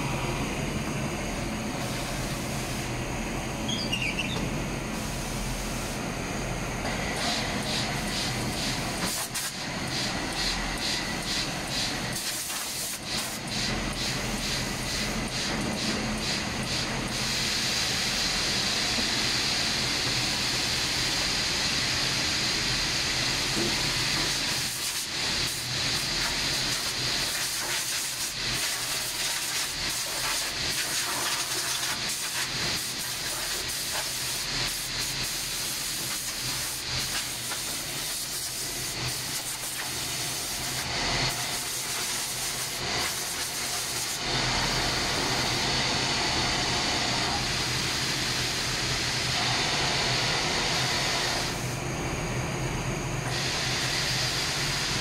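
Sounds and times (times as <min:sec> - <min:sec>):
rushing air hiss: 0:01.0 - 0:03.1, 0:04.8 - 0:51.7, 0:53.2 - 0:55.0.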